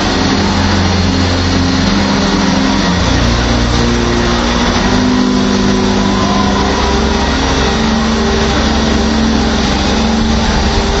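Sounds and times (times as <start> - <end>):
constant noisy din: 0.0 - 11.0
vehicle engine running loudly: 0.0 - 11.0.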